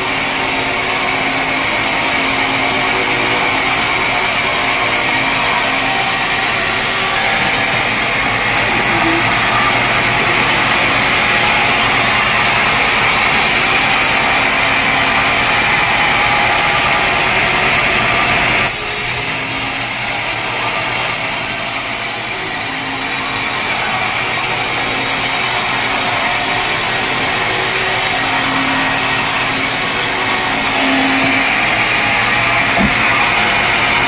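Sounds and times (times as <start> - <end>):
saw blade whining through log: 0.0 - 34.0.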